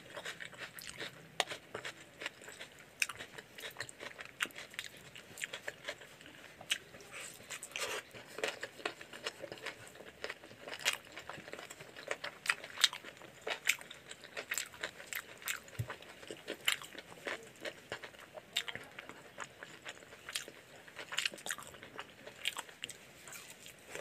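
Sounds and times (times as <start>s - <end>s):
wet chewing and smacking: 0.0s - 24.0s.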